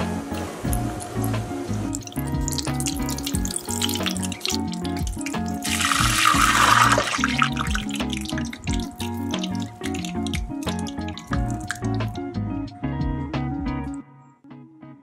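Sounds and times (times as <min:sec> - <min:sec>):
deep-frying sizzle in oil: 0:00.0 - 0:12.2
background music: 0:00.0 - 0:15.0.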